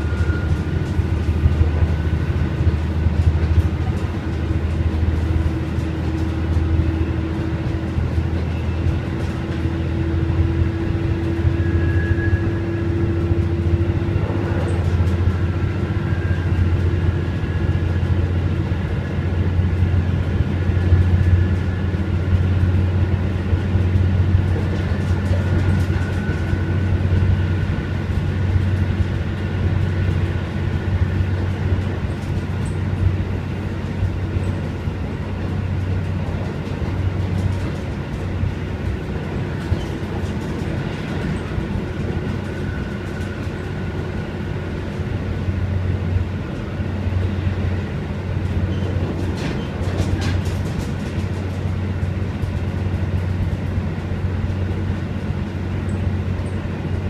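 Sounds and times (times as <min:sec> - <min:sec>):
railcar drone and rumble: 0:00.0 - 0:57.0.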